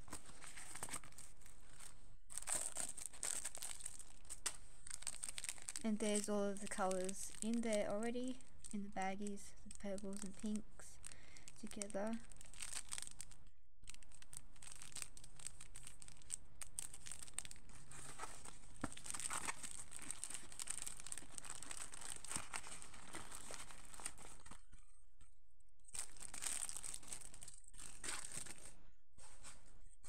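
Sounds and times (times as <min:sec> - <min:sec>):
plastic wrapping crinkling: 0:00.0 - 0:24.8, 0:25.8 - 0:29.6.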